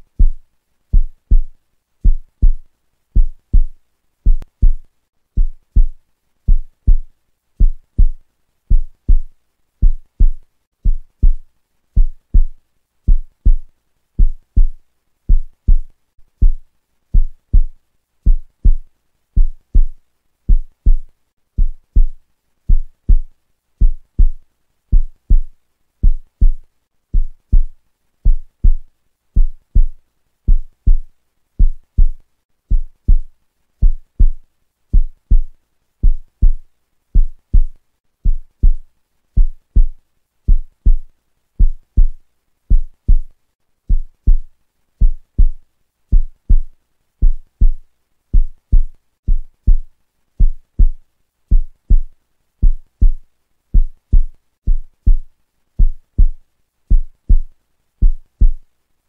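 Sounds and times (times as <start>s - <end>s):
deep heartbeat thumps: 0.2s - 11.4s, 12.0s - 28.8s, 29.4s - 36.6s, 37.2s - 38.8s, 39.4s - 43.3s, 43.9s - 58.6s.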